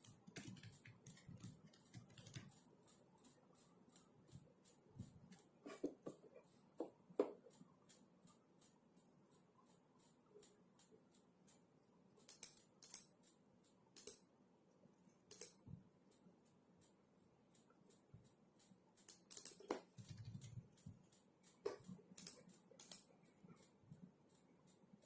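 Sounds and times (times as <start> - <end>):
faint typing on keyboard: 0.0 - 25.0.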